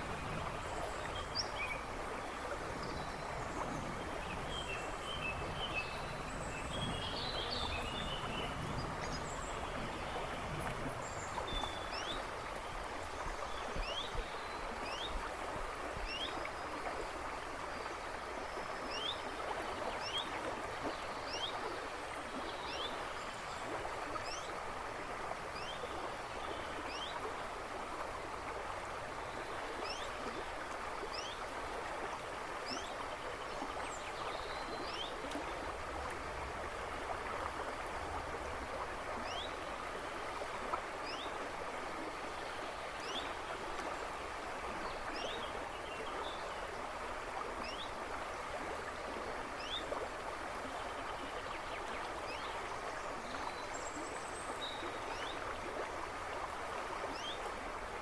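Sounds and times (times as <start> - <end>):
river babbling and rushing: 0.0 - 58.0.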